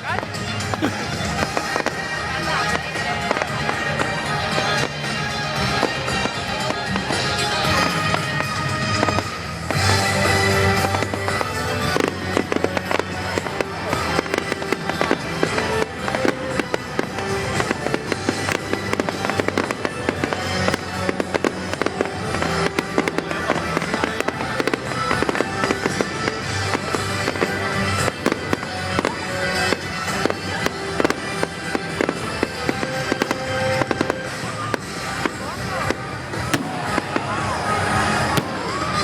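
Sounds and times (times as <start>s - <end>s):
fireworks crackling and banging: 0.0s - 39.0s
music playing: 0.0s - 39.0s.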